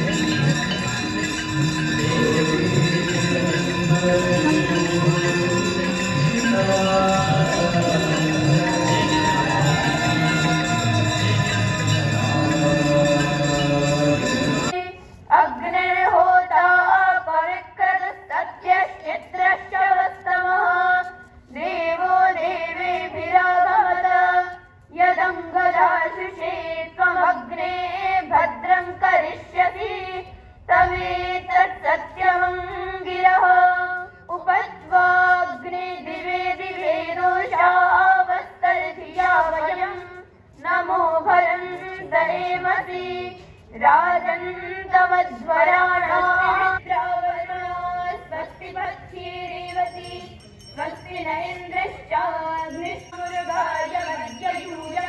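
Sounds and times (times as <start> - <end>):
girls singing together: 0.0 - 55.0.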